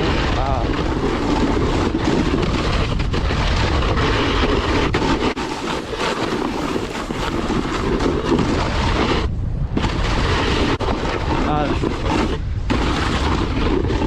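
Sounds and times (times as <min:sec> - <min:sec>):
snowboard edges scraping snow: 0:00.0 - 0:14.0
wind rushing over microphone: 0:00.0 - 0:14.0.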